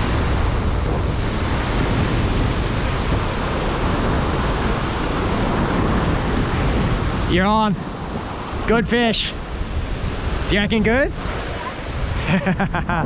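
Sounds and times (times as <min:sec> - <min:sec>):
surf washing through shallow water: 0:00.0 - 0:13.0
wind buffeting microphone: 0:00.0 - 0:13.0.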